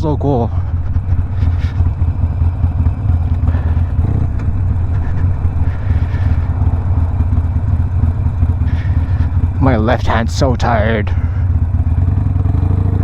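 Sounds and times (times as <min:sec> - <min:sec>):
motorcycle engine deep exhaust note: 0:00.0 - 0:13.0.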